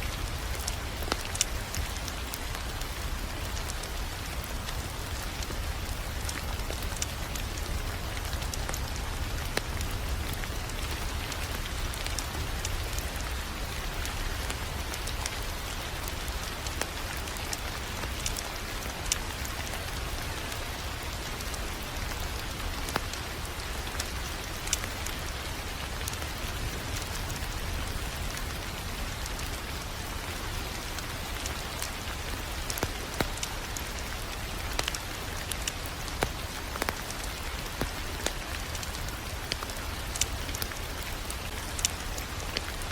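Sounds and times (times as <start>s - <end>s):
wood fire crackling and popping: 0.1s - 42.9s.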